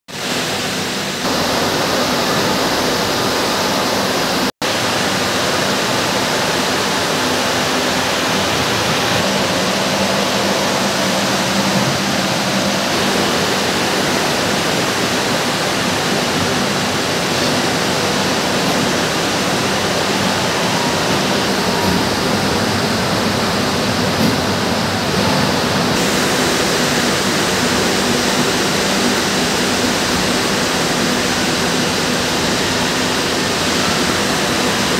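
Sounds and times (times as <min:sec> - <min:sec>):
spinning mill machinery rushing: 0:00.2 - 0:34.9.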